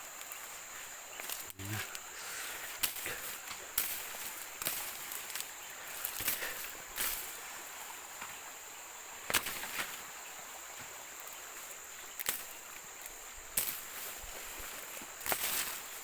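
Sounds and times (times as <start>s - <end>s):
background hiss: 0.0s - 16.0s
high-pitched insect drone: 0.0s - 16.0s.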